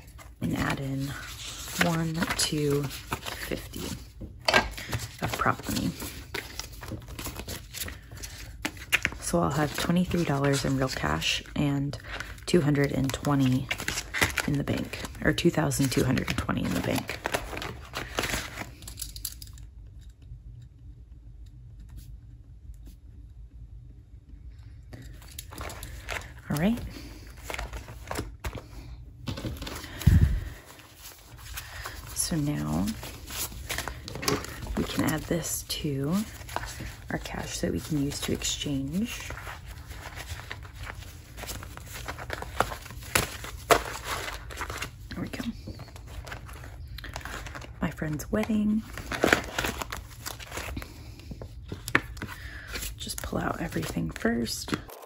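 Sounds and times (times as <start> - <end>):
paper banknotes rustling: 0.0 - 19.4, 25.0 - 55.0.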